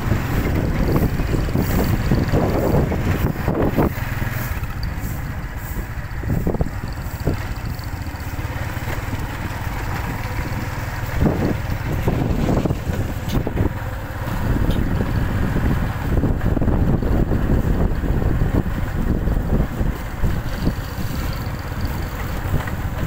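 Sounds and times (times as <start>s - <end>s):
motorcycle riding: 0.0s - 23.0s.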